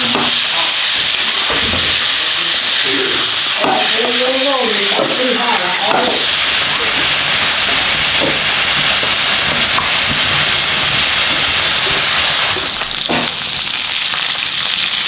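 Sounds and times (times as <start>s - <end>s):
pork sizzling in a pan: 0.0s - 15.0s.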